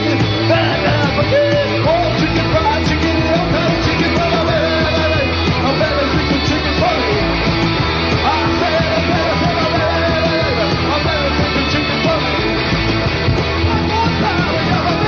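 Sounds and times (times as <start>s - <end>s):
punk rock band playing loudly: 0.0s - 15.0s.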